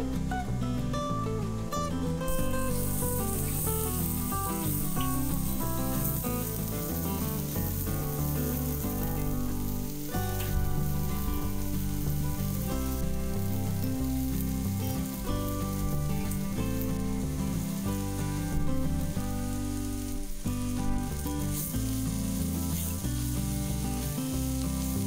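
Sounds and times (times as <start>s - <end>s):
background music with held notes: 0.0s - 25.0s
vegetables sizzling in frying pan: 0.0s - 25.0s.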